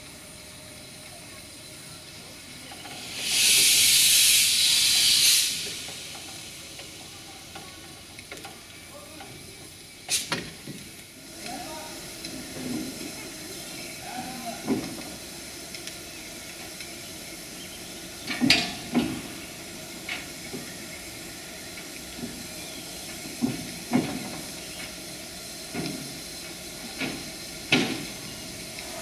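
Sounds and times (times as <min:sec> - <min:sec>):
steam hissing from locomotive: 0:00.0 - 0:29.0.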